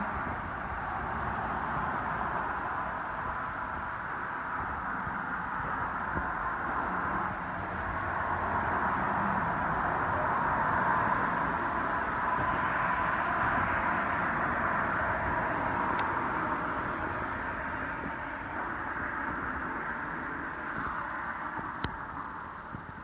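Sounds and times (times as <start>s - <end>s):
tyre noise from passing cars: 0.0s - 23.0s.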